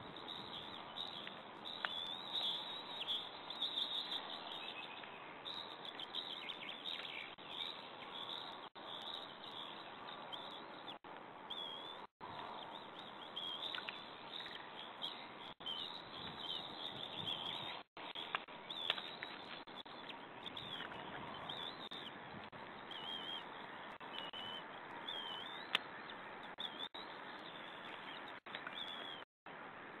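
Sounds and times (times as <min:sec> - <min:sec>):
high chirping bird calls: 0:00.0 - 0:29.3.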